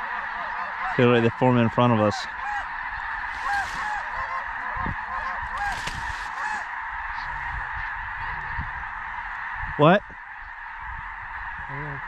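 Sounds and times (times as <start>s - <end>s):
flock of geese calling: 0.0s - 12.0s.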